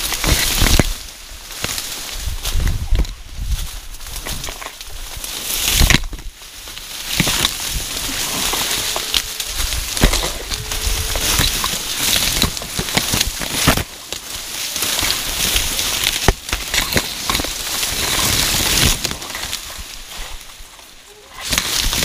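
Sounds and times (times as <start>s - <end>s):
dry vegetation crackling underfoot: 0.0s - 22.0s.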